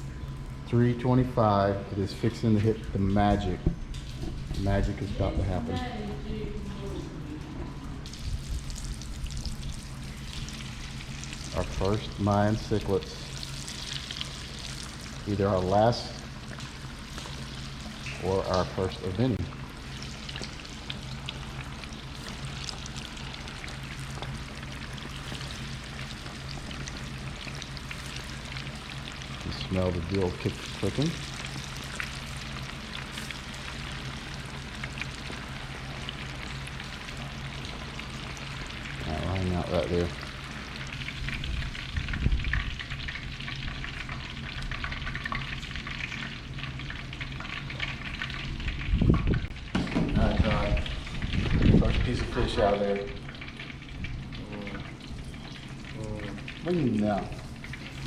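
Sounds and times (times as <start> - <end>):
low hum: 0.0 - 56.6
fish frying in hot oil: 8.0 - 58.0.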